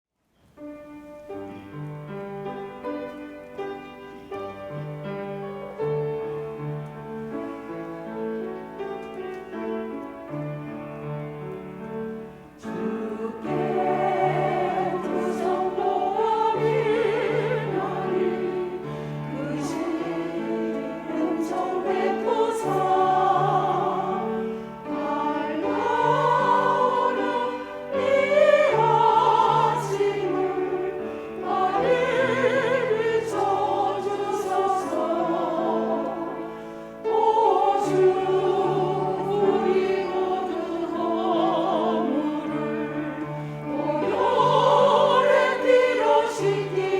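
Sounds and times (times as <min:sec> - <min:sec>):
choir singing a hymn: 0:01.1 - 0:46.9.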